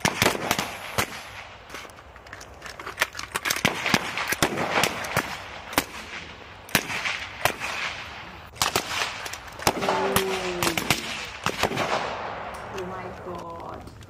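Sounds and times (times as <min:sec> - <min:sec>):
rifle shots: 0:00.0 - 0:01.7, 0:03.5 - 0:13.1.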